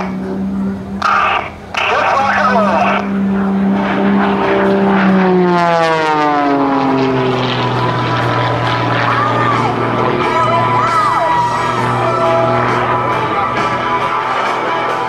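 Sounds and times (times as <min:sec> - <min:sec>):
airplane engine and propeller: 0:00.0 - 0:15.0.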